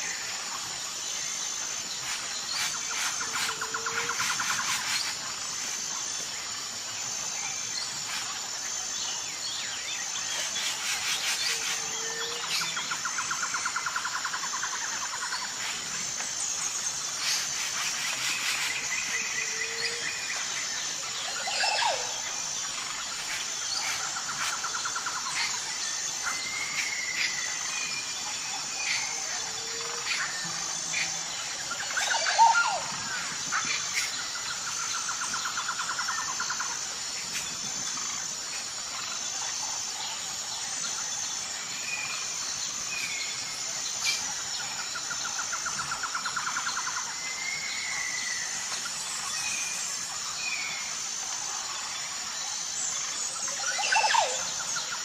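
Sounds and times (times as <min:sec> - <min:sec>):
birds calling with whistled notes: 0:00.0 - 0:55.0
pulsing insect chorus: 0:00.0 - 0:55.0.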